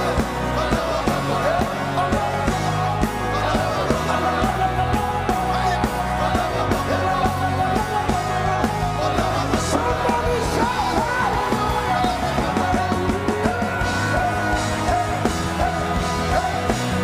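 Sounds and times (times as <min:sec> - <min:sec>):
bass: 0:00.0 - 0:17.0
live praise band playing: 0:00.0 - 0:17.0
people singing: 0:00.0 - 0:17.0
steady drum beat: 0:00.0 - 0:17.0.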